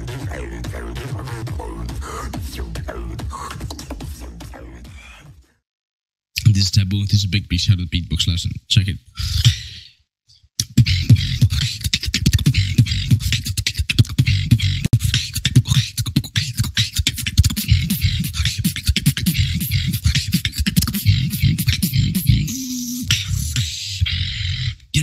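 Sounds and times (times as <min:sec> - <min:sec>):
person beatboxing: 0:00.0 - 0:05.4, 0:09.2 - 0:09.9, 0:10.6 - 0:25.0.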